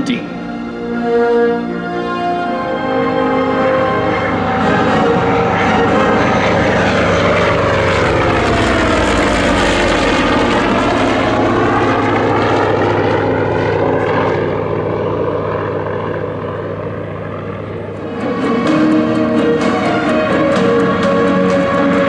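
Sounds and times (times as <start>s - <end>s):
propeller plane passing by: 0.0s - 22.0s.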